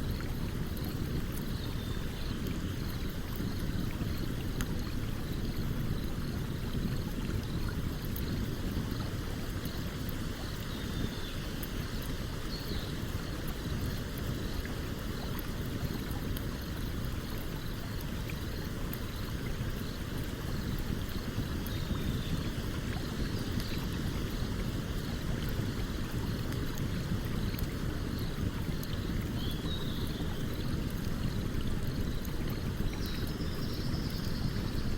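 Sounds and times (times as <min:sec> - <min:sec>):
stream water running: 0:00.0 - 0:34.9.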